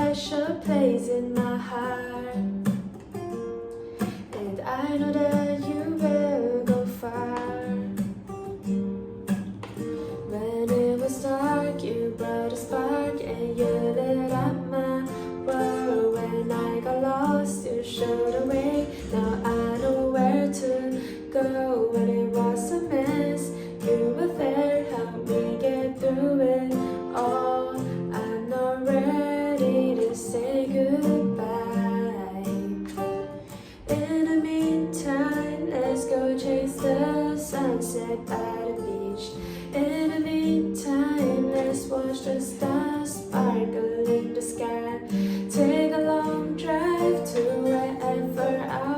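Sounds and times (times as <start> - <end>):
woman singing: 0.0 - 8.6, 10.0 - 48.9
acoustic guitar plucked and strummed: 0.0 - 48.9.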